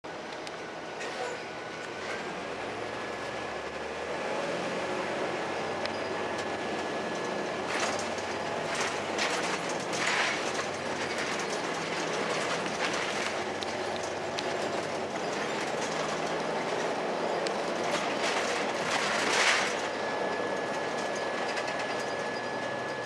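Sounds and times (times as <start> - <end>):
bus diesel engine running: 0.0 - 23.0
road noise: 0.0 - 23.0.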